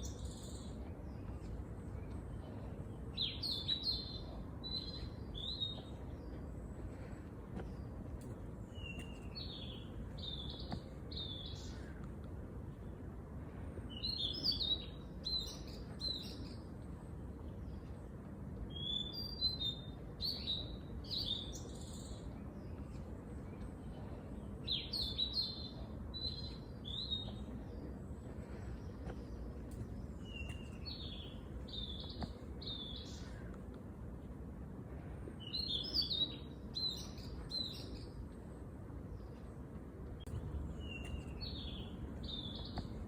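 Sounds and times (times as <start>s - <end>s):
low background rumble: 0.0s - 43.0s
songbirds chirping: 0.0s - 43.0s.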